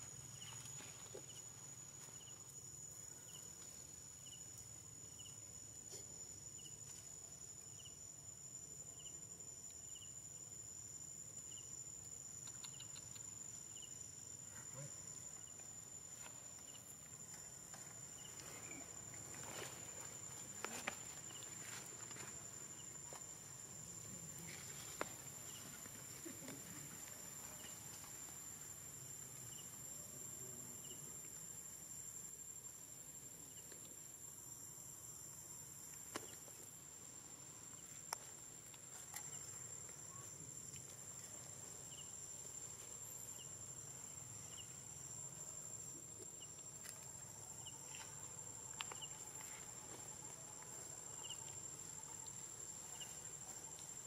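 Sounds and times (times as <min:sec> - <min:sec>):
insect drone: 0:00.0 - 0:54.0
short insect chirp: 0:00.0 - 0:54.0.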